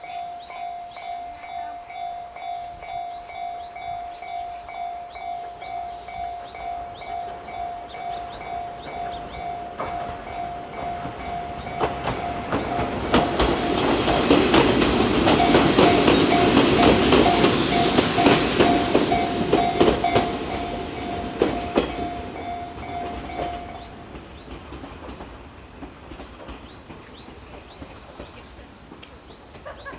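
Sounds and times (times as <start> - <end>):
level crossing warning bell: 0.0 - 24.1
train wheels clacking on rails: 0.1 - 29.9.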